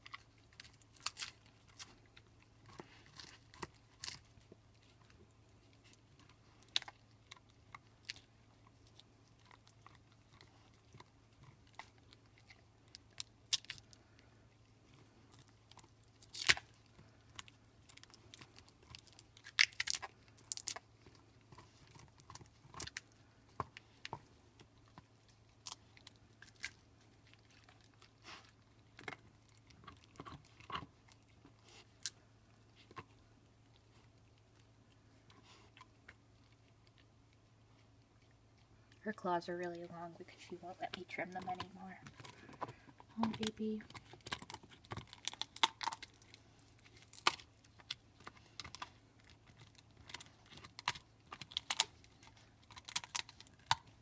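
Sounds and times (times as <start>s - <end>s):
dog gnawing on bone: 0.0s - 39.1s, 39.7s - 54.0s.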